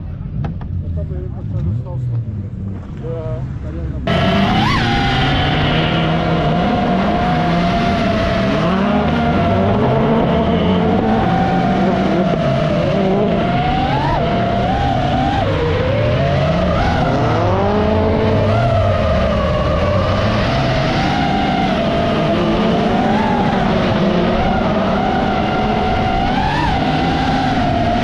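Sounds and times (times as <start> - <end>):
race car engines revving: 0.0 - 28.0
high whine: 3.7 - 28.0.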